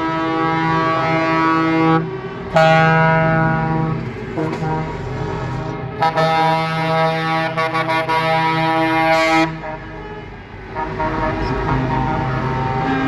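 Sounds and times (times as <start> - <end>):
truck air horn blast: 0.0 - 13.0.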